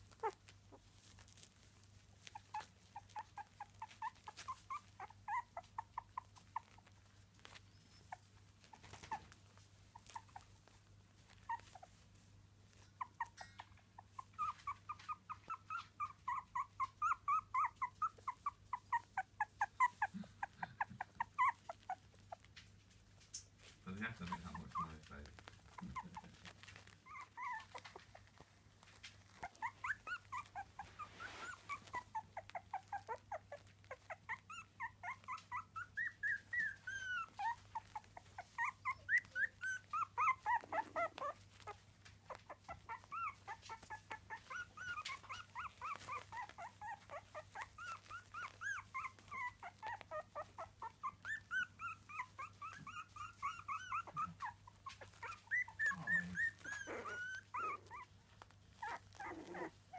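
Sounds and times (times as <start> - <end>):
puppies whimpering and squeaking: 0.0 - 59.9.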